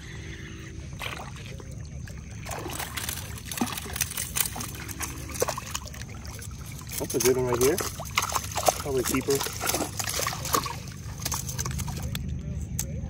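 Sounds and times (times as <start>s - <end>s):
fish splashing in water: 0.0s - 12.4s.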